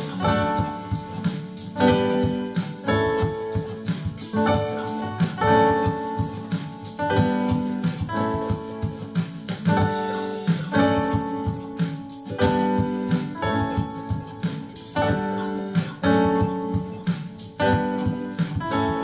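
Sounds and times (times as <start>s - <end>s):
cajon beat: 0.0s - 19.0s
piano chords: 0.0s - 19.0s.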